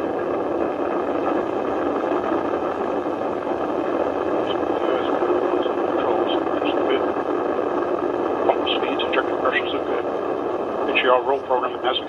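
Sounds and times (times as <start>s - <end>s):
rocket engine rumble: 0.0s - 12.0s.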